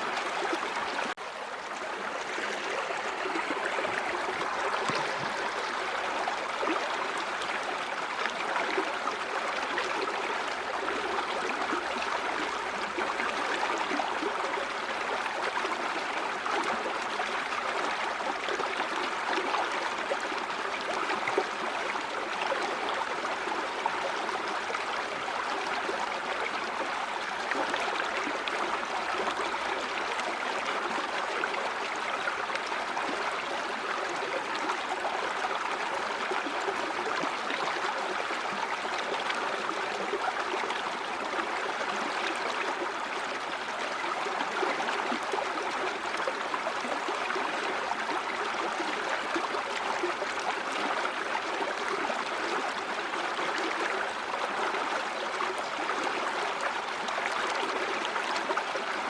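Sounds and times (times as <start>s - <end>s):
stream flowing over stones: 0.0s - 59.0s.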